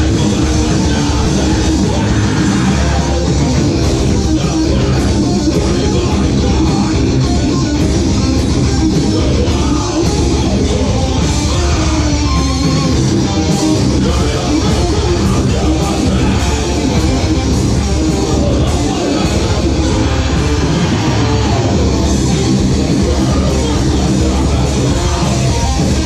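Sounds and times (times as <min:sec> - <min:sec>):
heavy rock band playing: 0:00.0 - 0:26.0.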